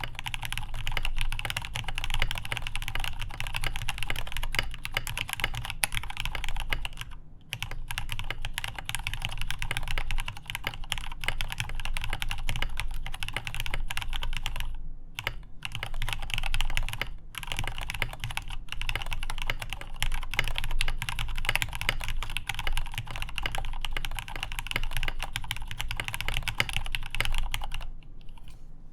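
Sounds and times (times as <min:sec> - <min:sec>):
fast typing on mechanical keyboard: 0:00.0 - 0:28.5.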